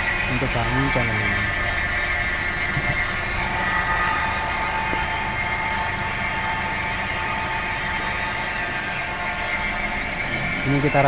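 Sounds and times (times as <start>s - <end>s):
lathe gear train humming: 0.0s - 11.0s.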